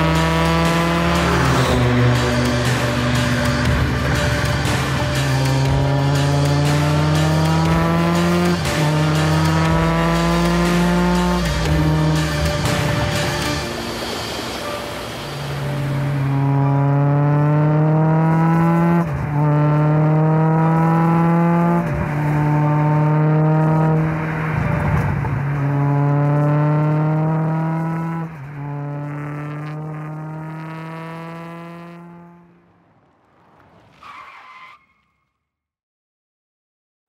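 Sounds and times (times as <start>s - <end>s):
car engine accelerating hard: 0.0s - 33.8s.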